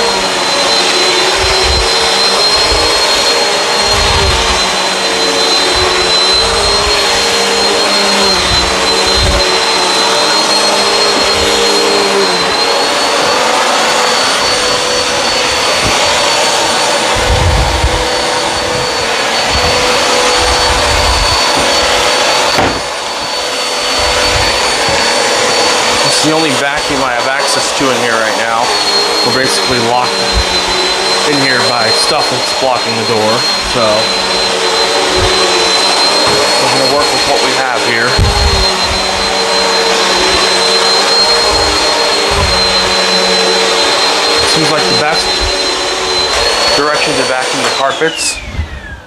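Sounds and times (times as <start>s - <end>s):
vacuum cleaner running on carpet: 0.0s - 49.0s.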